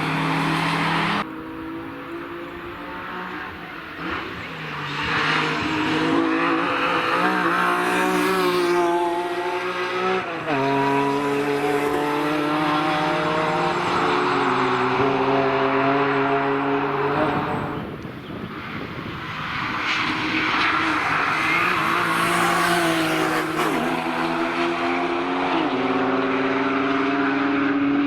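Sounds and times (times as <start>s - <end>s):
car engine at full throttle: 0.0s - 28.0s.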